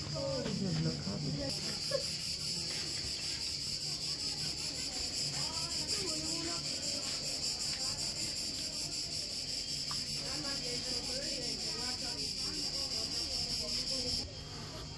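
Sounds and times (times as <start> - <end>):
cicadas chirring: 0.0 - 14.9.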